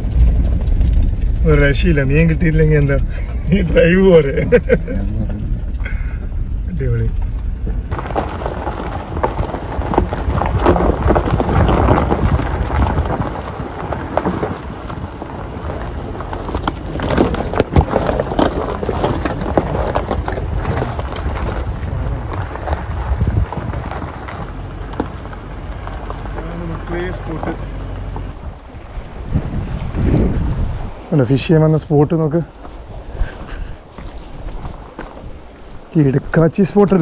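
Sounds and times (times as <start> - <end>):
tyres crunching on gravel: 0.0 - 29.8, 32.3 - 37.0
low rumble: 0.0 - 31.5.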